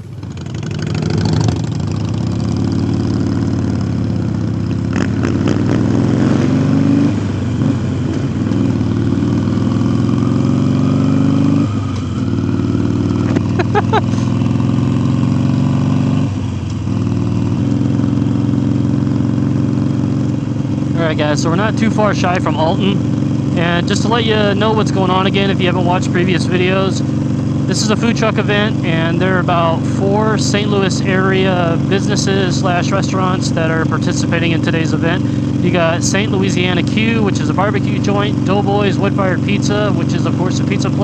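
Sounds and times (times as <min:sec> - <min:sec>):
motorcycle engine shifting gears: 0:00.0 - 0:41.0.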